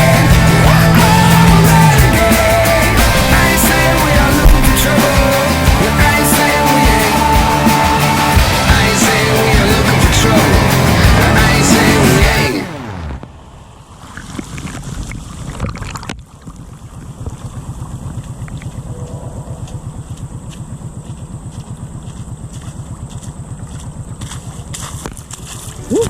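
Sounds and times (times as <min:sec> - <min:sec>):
atv engine running: 0:00.0 - 0:15.5, 0:16.3 - 0:26.0.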